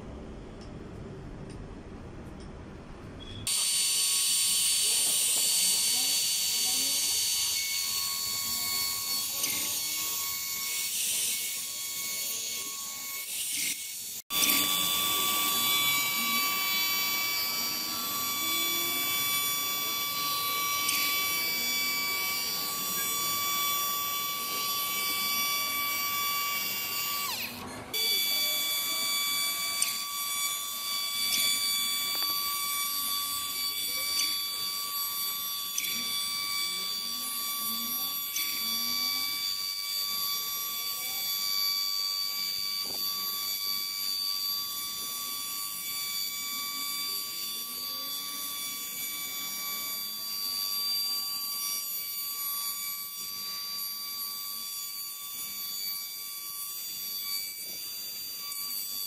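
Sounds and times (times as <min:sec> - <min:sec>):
power drill whining: 0:03.4 - 0:59.0.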